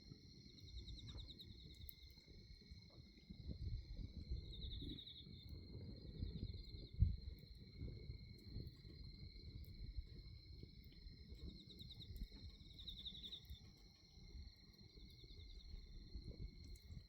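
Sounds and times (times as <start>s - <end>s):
crickets chirping: 0.0s - 17.0s
bonfire burning rumble: 0.3s - 17.0s.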